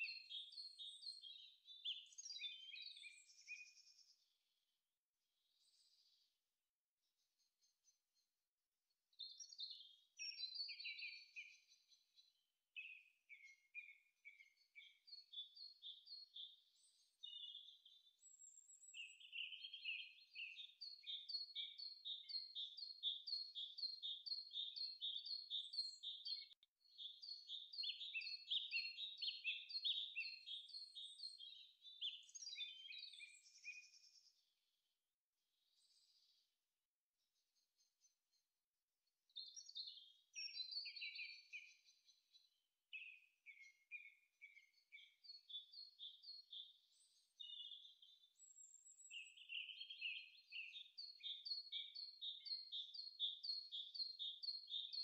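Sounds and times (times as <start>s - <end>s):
songbirds chirping and trilling: 0.0s - 4.4s, 5.5s - 6.3s, 9.1s - 34.6s, 35.6s - 36.4s, 39.2s - 55.0s.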